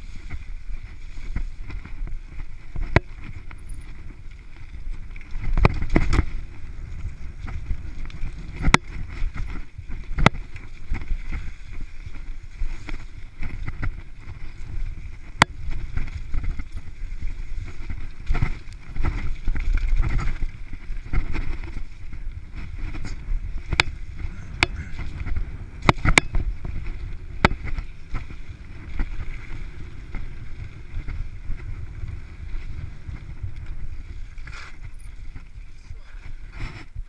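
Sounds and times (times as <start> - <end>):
bike clicks and rattles: 0.0 - 37.0
bike tyres rumbling on dirt: 0.0 - 37.0.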